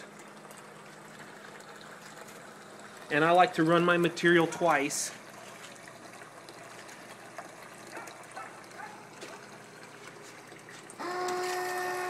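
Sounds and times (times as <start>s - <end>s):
faint water trickling: 0.0s - 12.0s.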